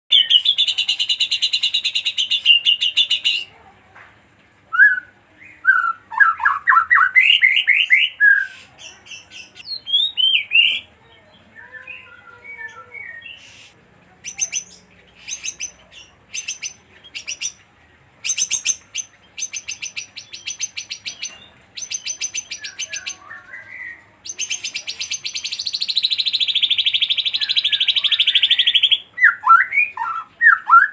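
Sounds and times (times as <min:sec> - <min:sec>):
songbird singing trills and whistles: 0:00.1 - 0:03.5, 0:04.7 - 0:17.6, 0:18.2 - 0:30.9.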